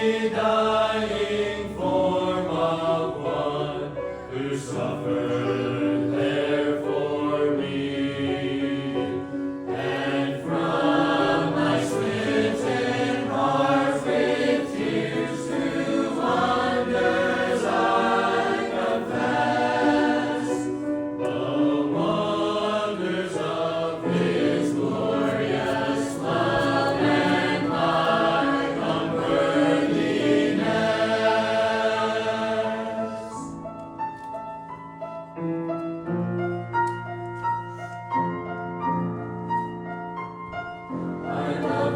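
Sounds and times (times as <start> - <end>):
church choir singing a hymn: 0.0 - 33.8, 40.9 - 41.9.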